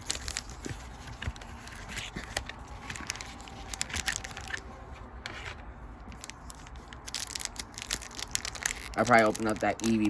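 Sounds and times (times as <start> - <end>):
foil wrapper crinkling: 0.0 - 4.7, 6.1 - 10.0.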